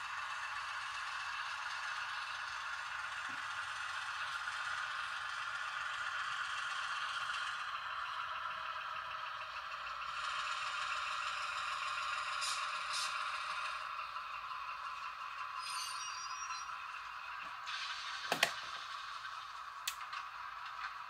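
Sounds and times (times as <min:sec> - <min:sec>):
model locomotive running: 0:00.0 - 0:21.0.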